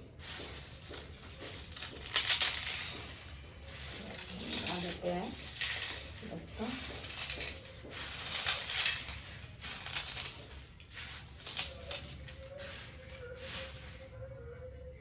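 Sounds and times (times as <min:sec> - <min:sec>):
puffed rice crunching: 0:00.0 - 0:14.3.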